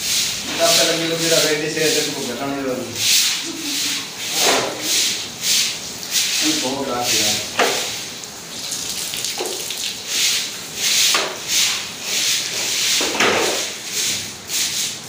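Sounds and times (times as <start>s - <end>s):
scrubbing a wet wall: 0.0s - 15.0s
water splashing: 0.6s - 13.0s.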